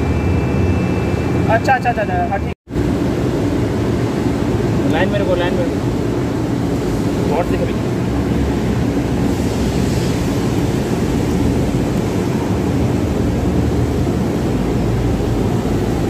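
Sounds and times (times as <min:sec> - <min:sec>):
industrial machinery drone: 0:00.0 - 0:16.0.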